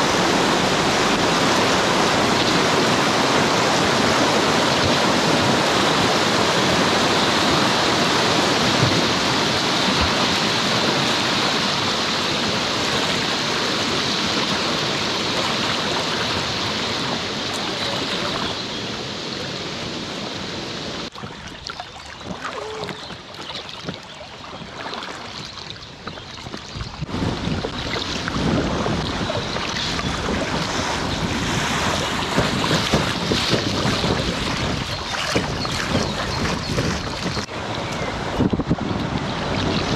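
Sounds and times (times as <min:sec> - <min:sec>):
small water splashes: 0:00.0 - 0:19.7, 0:21.0 - 0:39.9
river water rushing: 0:00.0 - 0:26.5, 0:27.1 - 0:39.9
wind noise on microphone: 0:00.0 - 0:39.9.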